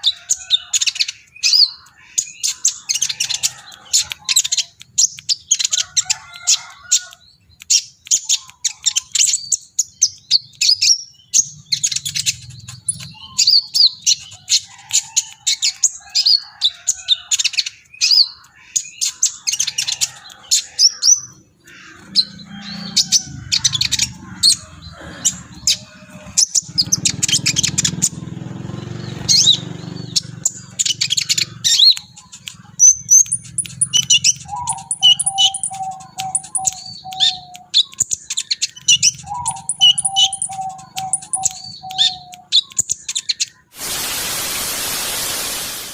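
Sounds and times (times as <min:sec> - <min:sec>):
bird singing high chirps and trills: 0:00.0 - 0:43.7.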